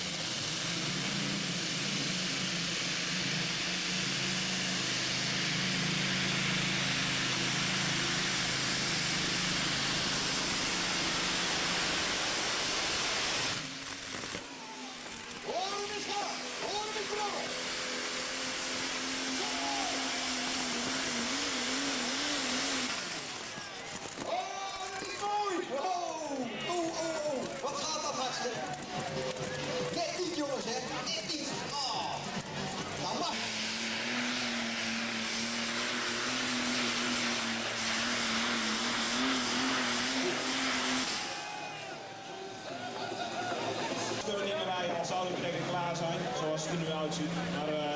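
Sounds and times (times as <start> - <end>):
tractor engine roaring: 0.0 - 47.9.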